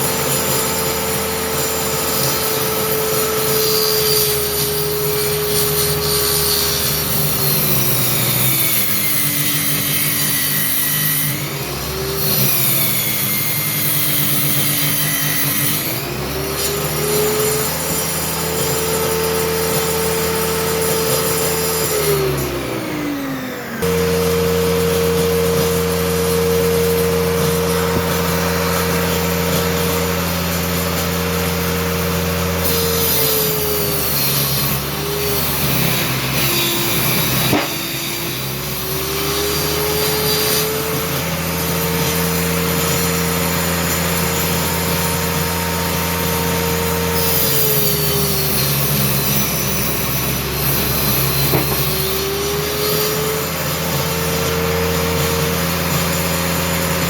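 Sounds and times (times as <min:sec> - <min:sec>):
circular saw cutting wood: 0:00.0 - 0:57.0.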